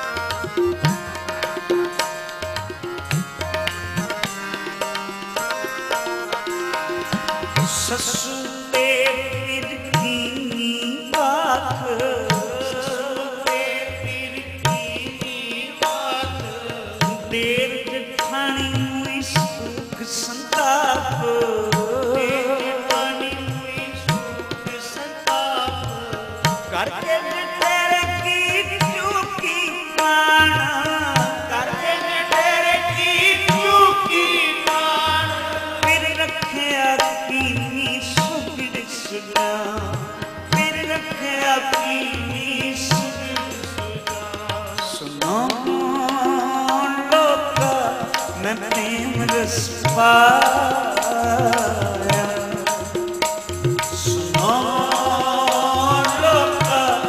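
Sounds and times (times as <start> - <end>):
harmonium: 0.0 - 57.0
tabla rhythm: 0.0 - 57.0
devotional singing: 7.0 - 57.0.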